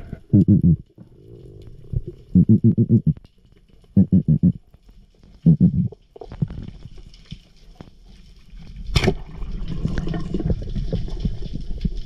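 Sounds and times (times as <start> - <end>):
low rushing water underwater: 0.0 - 12.0.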